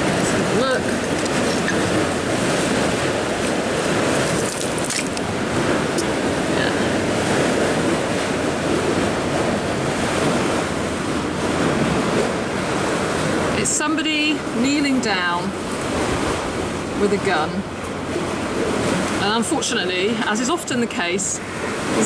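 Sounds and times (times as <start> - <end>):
wind on microphone: 0.0 - 19.5
river water washing on shingle: 0.0 - 22.0.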